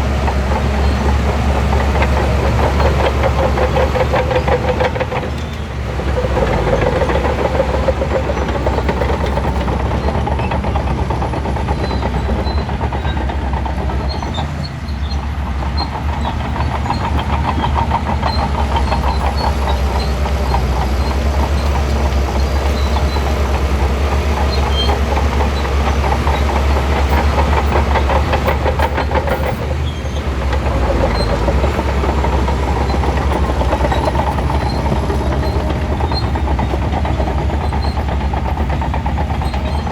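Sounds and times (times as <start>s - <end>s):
bulldozer diesel engine under load: 0.0s - 39.9s
tracks clanking: 0.0s - 39.9s.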